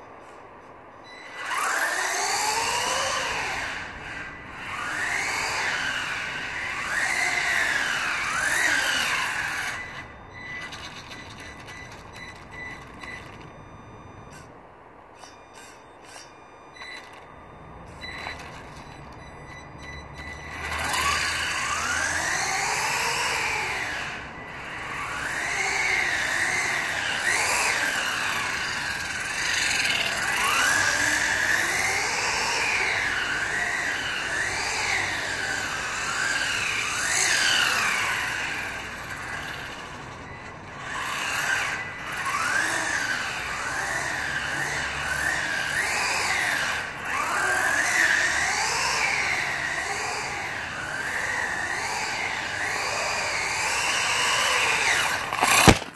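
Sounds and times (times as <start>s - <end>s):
toy car electric motor whining: 1.1s - 14.6s, 15.2s - 55.9s.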